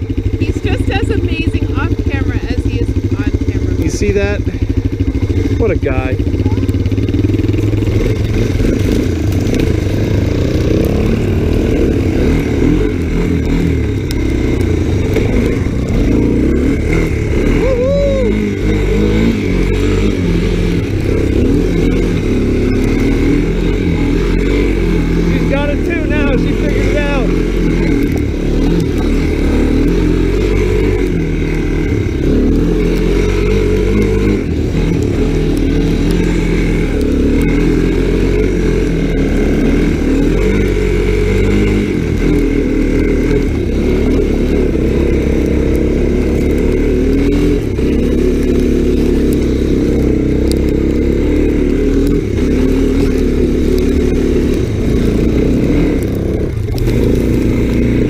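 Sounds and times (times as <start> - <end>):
single-cylinder engine revving: 0.0 - 58.0.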